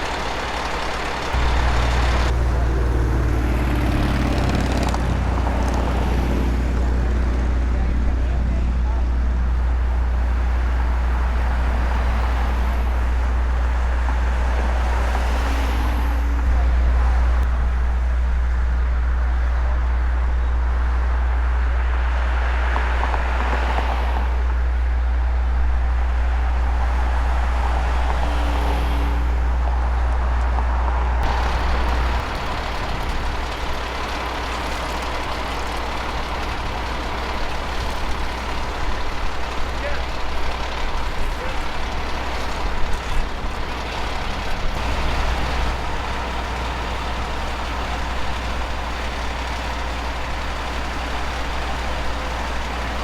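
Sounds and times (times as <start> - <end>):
deep traffic rumble: 0.0 - 53.0
vehicles passing: 0.0 - 53.0.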